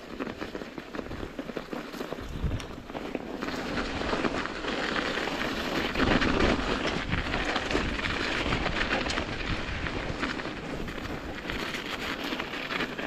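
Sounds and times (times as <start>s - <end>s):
bike rattling over bumps: 0.0s - 13.0s
bike tyres crunching over snow: 0.0s - 13.0s.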